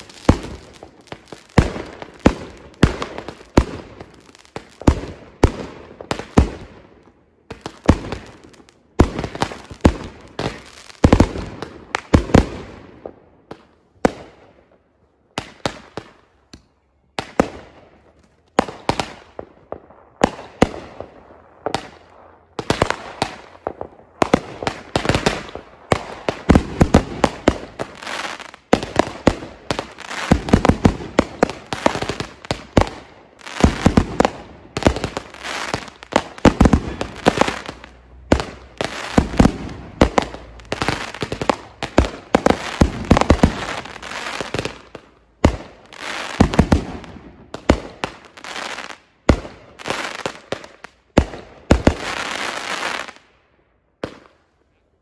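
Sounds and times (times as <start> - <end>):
fireworks bangs: 0.0 - 14.4, 17.2 - 53.2.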